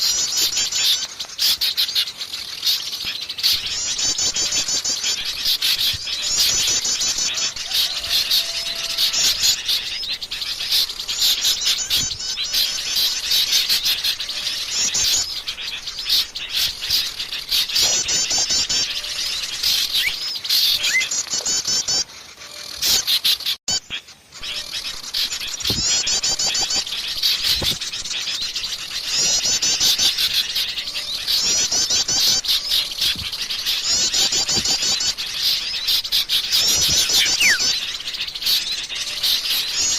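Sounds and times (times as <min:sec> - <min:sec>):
songbirds chattering and calling: 0:00.0 - 0:39.9.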